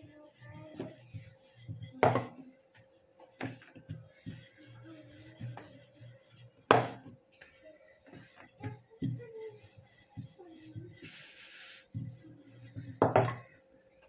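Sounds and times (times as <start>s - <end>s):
rubbing: 0.0s - 14.0s.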